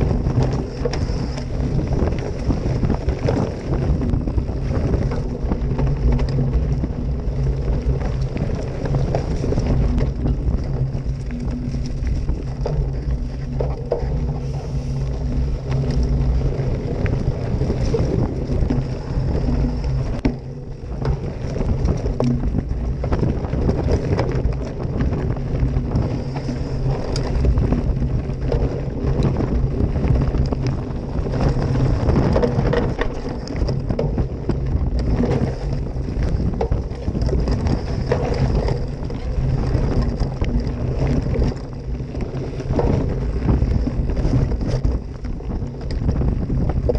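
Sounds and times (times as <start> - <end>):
bike rattling and knocking: 0.0 - 46.9
tyres rumbling on dirt trail: 0.0 - 46.9
wind buffeting microphone: 0.0 - 46.9.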